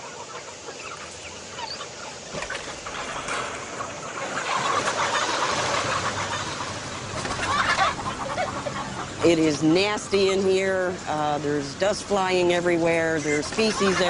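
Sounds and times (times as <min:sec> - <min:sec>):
flock of chickens cheeping: 0:00.0 - 0:14.0.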